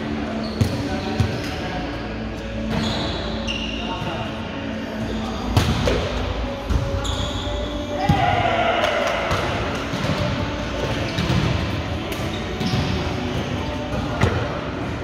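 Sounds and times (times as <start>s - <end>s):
echoing hall chatter: 0.0s - 15.0s.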